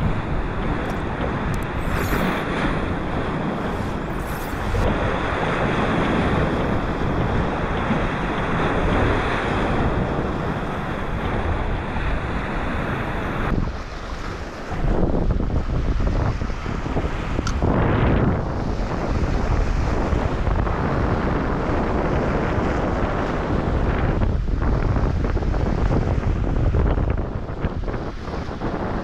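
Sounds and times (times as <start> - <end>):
sea waves breaking on rocks: 0.0 - 29.0
wind buffeting microphone: 0.0 - 29.0.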